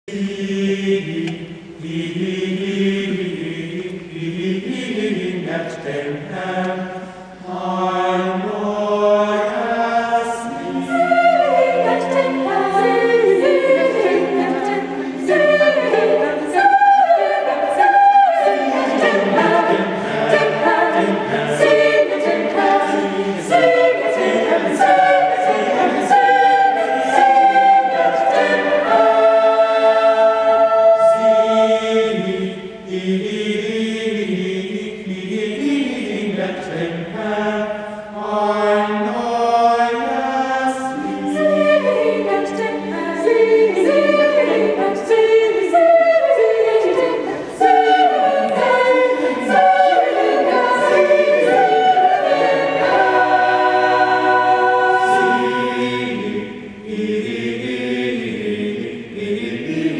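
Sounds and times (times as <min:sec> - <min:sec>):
mixed choir singing: 0:00.0 - 0:59.9.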